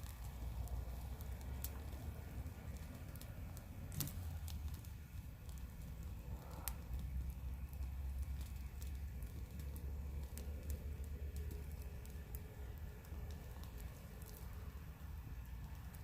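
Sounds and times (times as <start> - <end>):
bonfire crackling and popping: 0.0 - 16.0
low rumble: 0.0 - 16.0.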